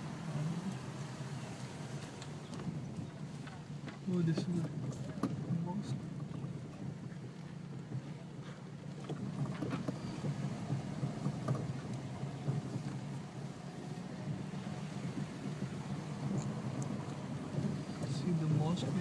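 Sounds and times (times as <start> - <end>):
car interior engine hum: 0.0 - 19.0.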